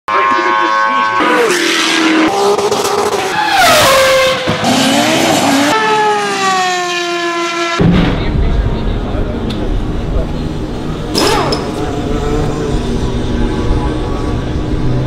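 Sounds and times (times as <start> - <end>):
racing car engines: 0.1 - 15.0.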